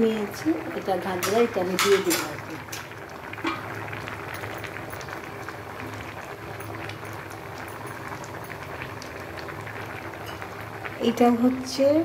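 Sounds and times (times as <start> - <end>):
curry bubbling in a pan: 0.0 - 12.0.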